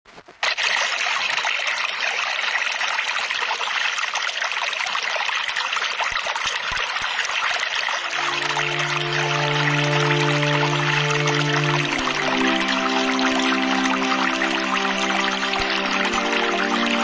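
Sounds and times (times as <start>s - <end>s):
trickling running water: 0.1s - 17.0s.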